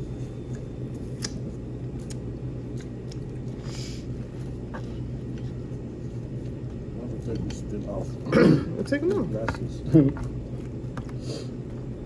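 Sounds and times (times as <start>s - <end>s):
low room hum: 0.0s - 12.0s
person chewing and eating: 0.0s - 12.0s.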